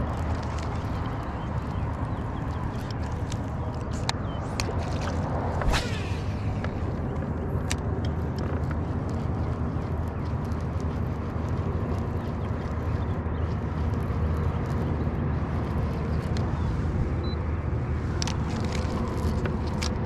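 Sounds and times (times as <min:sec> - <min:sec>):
boat engine hum: 0:00.0 - 0:20.0.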